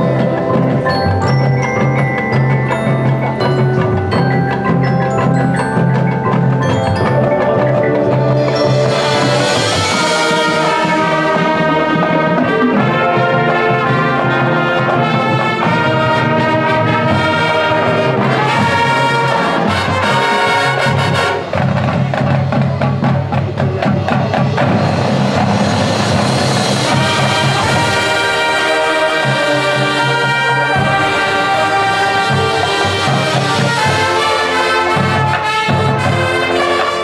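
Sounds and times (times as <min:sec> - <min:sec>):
marching band brass: 0:00.0 - 0:37.0
marimba and xylophone: 0:00.0 - 0:37.0.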